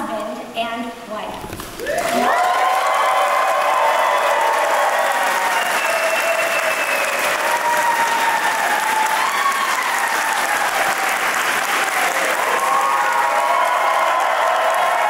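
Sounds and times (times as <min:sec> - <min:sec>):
crowd applauding: 0:01.7 - 0:15.0.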